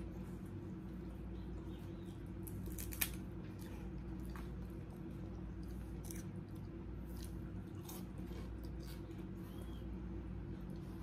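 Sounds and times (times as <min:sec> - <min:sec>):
chewing: 0:00.0 - 0:09.9
steady low hum: 0:00.0 - 0:11.0.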